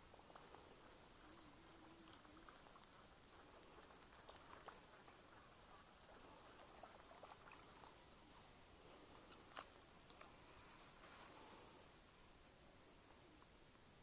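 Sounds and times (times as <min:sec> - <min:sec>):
faint ticks: 0:00.0 - 0:12.2, 0:13.0 - 0:14.0.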